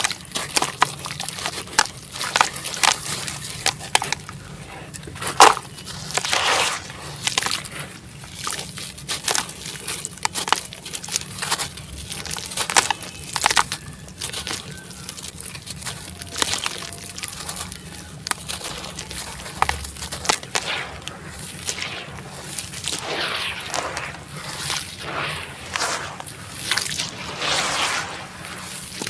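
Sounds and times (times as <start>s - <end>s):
concrete cracking and crackling: 0.0s - 29.0s
water sloshing: 0.0s - 29.0s.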